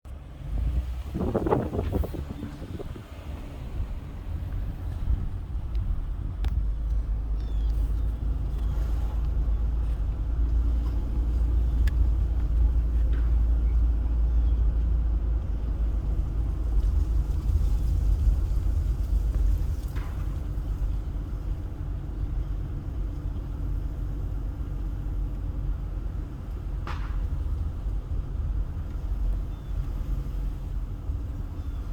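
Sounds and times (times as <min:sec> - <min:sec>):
car interior engine rumble: 0:00.0 - 0:31.9.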